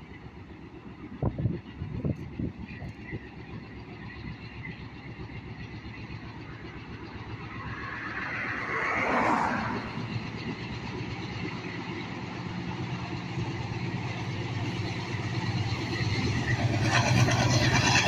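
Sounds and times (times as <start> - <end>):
diesel locomotive engine throbbing: 0.0 - 18.0
train wheels rumbling: 0.0 - 18.0.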